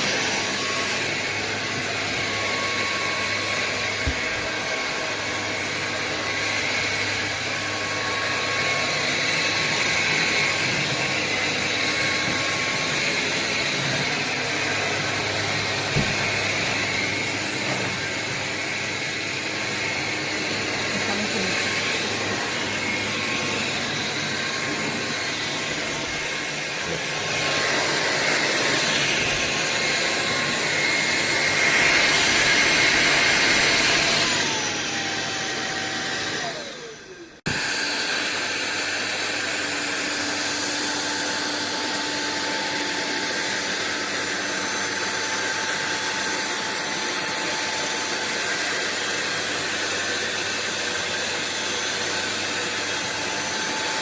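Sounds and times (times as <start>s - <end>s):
stick vacuum whining: 0.0s - 54.0s.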